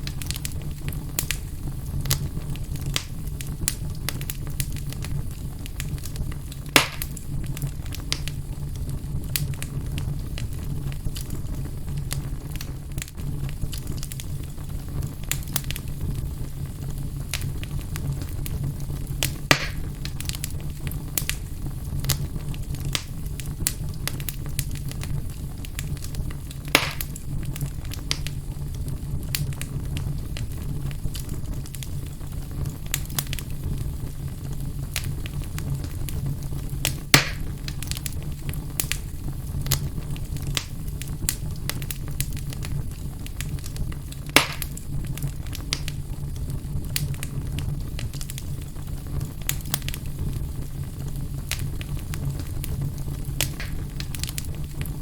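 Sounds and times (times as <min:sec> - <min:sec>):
fire crackling: 0:00.0 - 0:55.0
low fire rumble: 0:00.0 - 0:55.0
sharp fire pops: 0:00.0 - 0:55.0.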